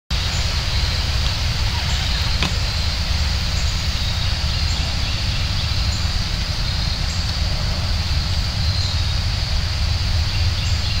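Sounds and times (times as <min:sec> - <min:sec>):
high-pitched hiss: 0:00.1 - 0:11.0
wind buffeting microphone: 0:00.2 - 0:11.0.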